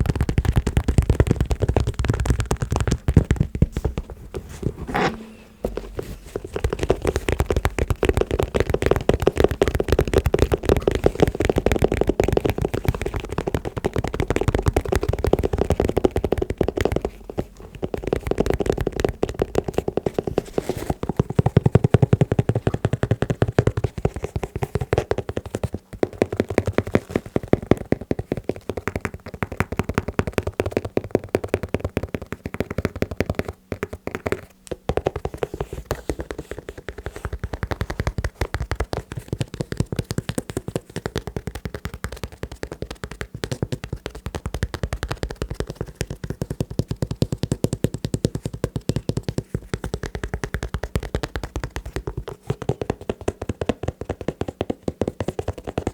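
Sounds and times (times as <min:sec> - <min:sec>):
fast tapping on shoes: 0:00.0 - 0:55.9.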